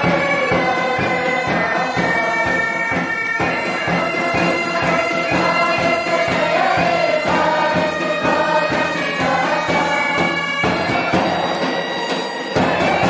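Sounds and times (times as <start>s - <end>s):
group of voices singing: 0.0s - 13.0s
steady drum beat: 0.0s - 13.0s.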